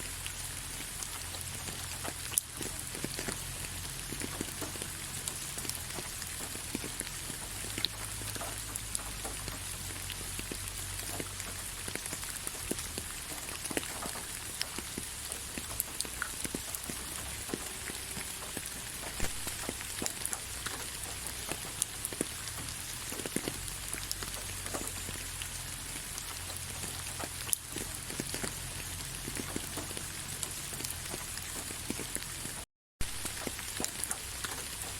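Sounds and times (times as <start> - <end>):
gentle rain hiss: 0.0 - 34.9
raindrops ticking on a surface: 0.0 - 34.9.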